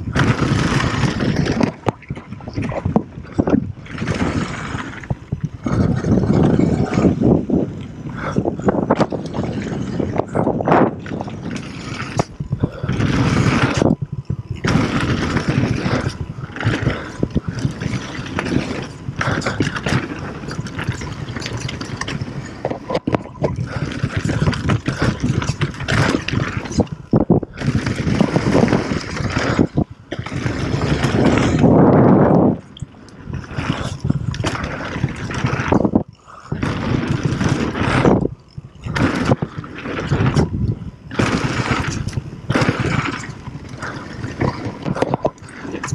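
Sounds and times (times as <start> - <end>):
tyres rolling over gravel: 0.0 - 32.5, 33.3 - 45.9
bike rattling: 0.0 - 45.9
wind rushing over microphone: 0.0 - 45.9.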